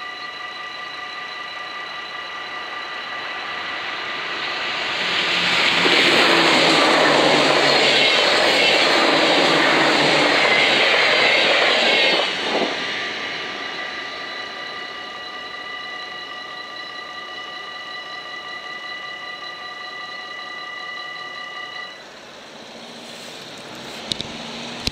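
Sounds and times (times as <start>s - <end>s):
electric train passing: 0.0s - 24.9s.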